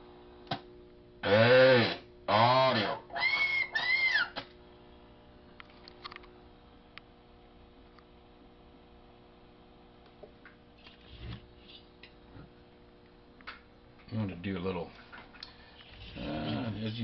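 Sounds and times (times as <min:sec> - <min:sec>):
faint equipment hum: 0:00.0 - 0:17.0.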